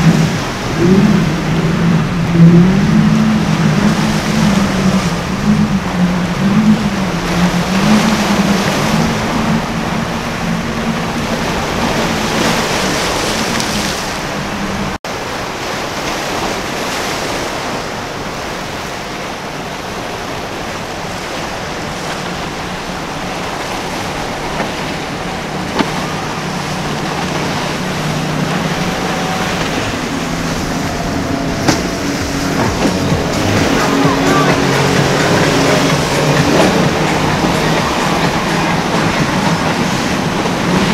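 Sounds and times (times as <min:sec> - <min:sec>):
breaking waves: 0:00.0 - 0:40.9
outboard motors running hard: 0:00.0 - 0:40.9.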